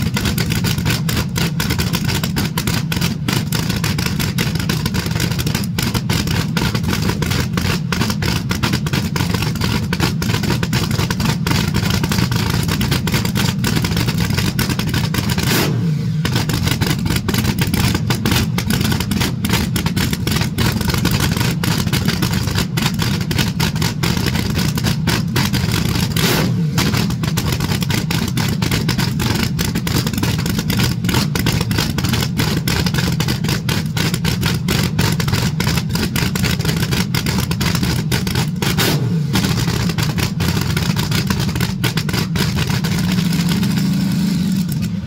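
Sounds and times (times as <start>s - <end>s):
dragster engine idling loudly: 0.0s - 45.0s.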